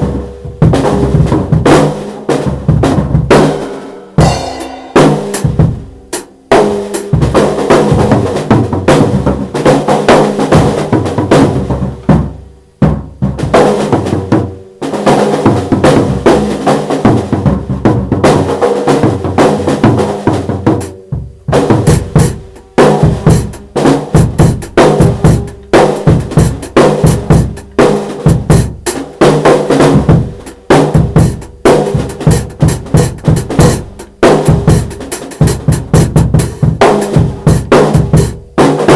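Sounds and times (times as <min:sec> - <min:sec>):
drum kit playing loudly: 0:00.0 - 0:38.9.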